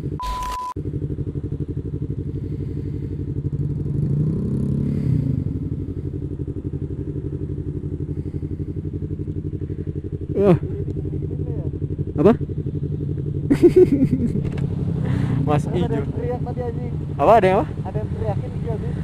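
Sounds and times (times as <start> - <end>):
motorcycle engine running: 0.0 - 0.2, 0.8 - 19.0.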